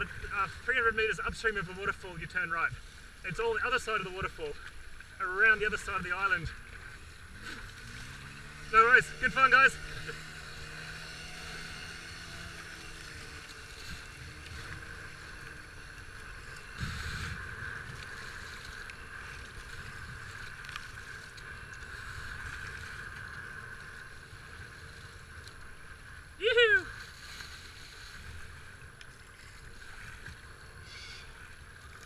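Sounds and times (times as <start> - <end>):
rushing whitewater: 0.0 - 20.7, 25.8 - 32.0
kayak splashing through wave: 0.0 - 32.0.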